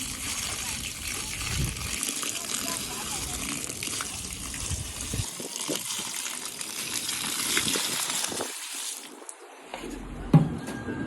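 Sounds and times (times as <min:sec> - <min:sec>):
water spraying onto a mat: 0:00.0 - 0:09.3.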